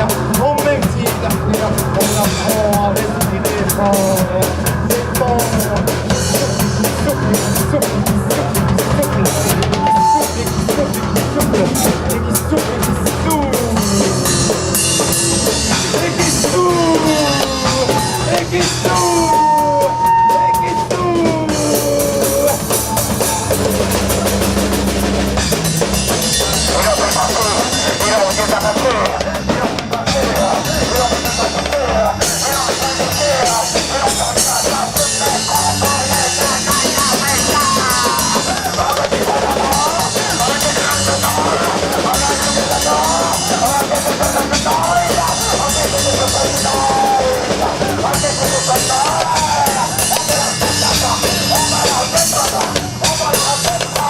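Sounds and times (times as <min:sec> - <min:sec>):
wavering lead melody: 0:00.0 - 0:53.9
rock drum beat: 0:00.0 - 0:54.0.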